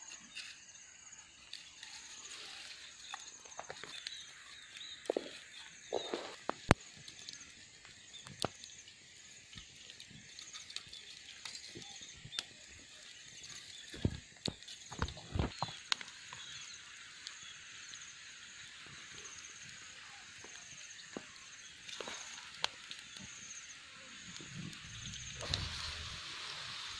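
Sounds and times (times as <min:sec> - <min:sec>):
campfire crackling and popping: 0:00.1 - 0:26.9.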